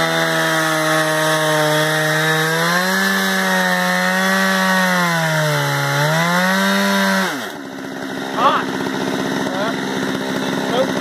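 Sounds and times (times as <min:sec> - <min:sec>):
chainsaw cutting through log: 0:00.0 - 0:11.0.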